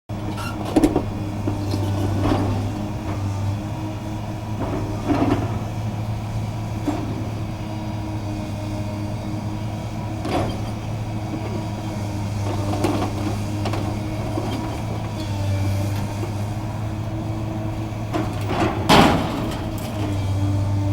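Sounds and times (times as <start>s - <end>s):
heavy machinery engine hum: 0.1s - 20.9s.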